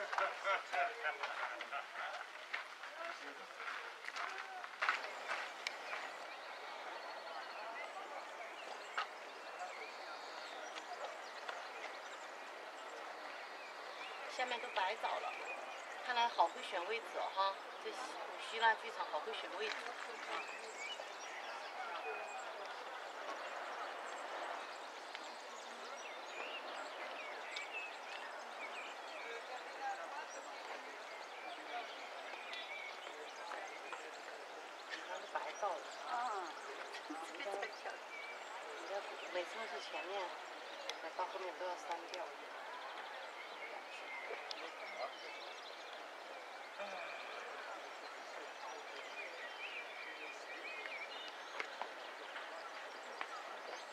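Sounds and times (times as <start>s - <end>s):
murmur of people talking: 0.0s - 53.9s.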